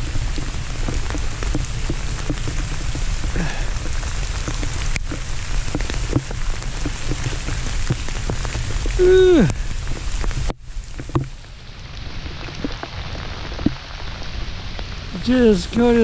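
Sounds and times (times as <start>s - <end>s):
freezing rain pattering: 0.0s - 16.0s
steady low rumble: 0.0s - 16.0s.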